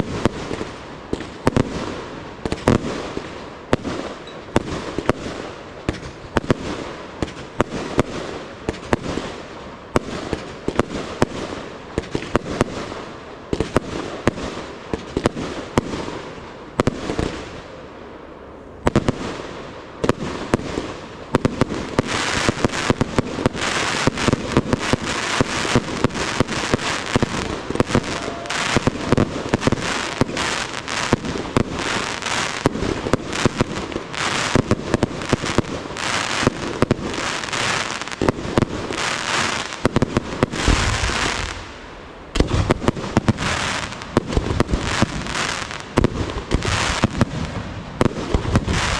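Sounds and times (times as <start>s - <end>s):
firework crackle: 0.0s - 48.9s.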